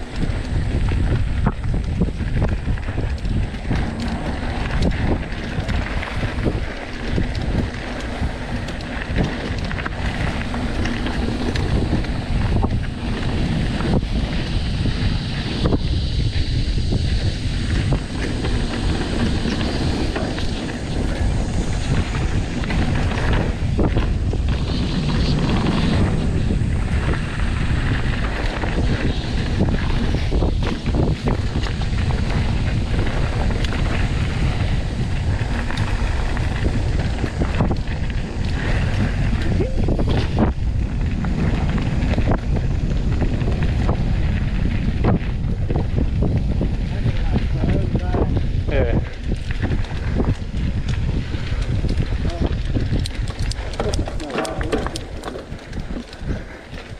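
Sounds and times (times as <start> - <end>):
bike knocking and rattling: 0.0 - 56.9
bike tyres rumbling on dirt: 0.0 - 56.9
wind buffeting microphone: 0.0 - 56.9.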